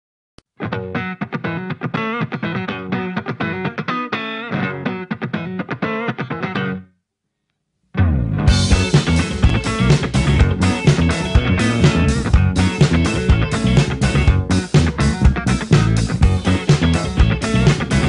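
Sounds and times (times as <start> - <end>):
plucked electric guitar music: 0.6 - 6.9, 8.0 - 18.0.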